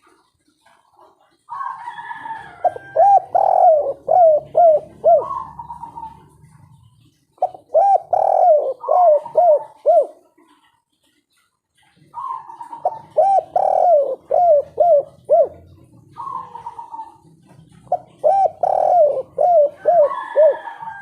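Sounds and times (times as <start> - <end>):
dove cooing: 0.0 - 10.8, 11.9 - 21.0.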